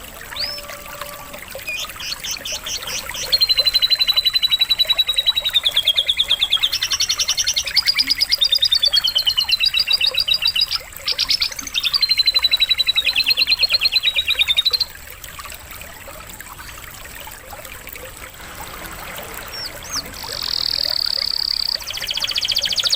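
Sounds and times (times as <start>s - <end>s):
faint trickle of running water: 0.0s - 22.9s
canary singing trills: 0.2s - 14.9s, 19.2s - 22.9s.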